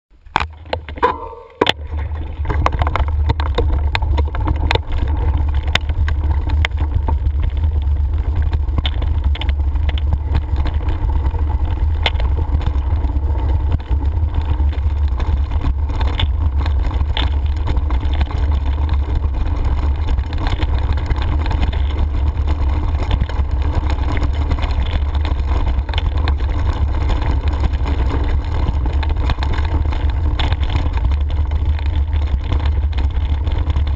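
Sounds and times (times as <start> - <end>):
bike rattling over stones: 0.1 - 33.9
wind rumble on microphone: 0.2 - 33.9.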